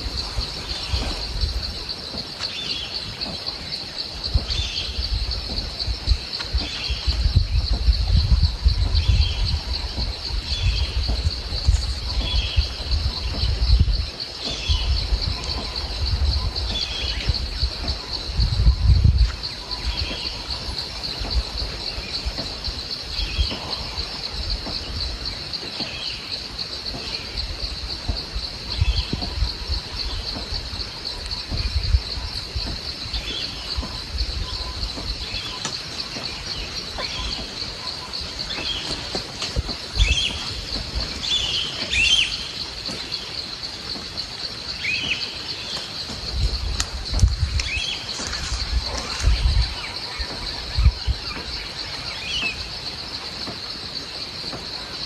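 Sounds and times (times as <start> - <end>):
high-pitched insect chorus: 0.0 - 55.0
wind rumble on microphone: 0.0 - 55.0.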